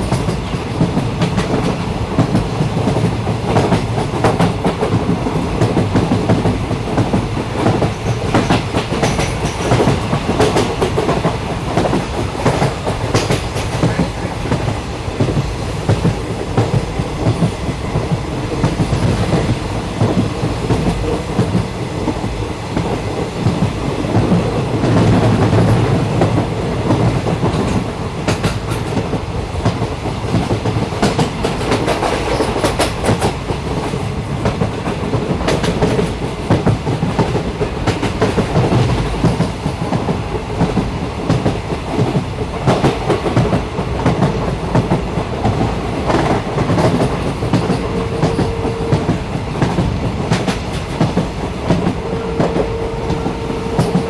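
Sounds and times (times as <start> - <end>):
train rumbling on rails: 0.0 - 54.0
train wheels knocking and clicking: 0.0 - 54.0.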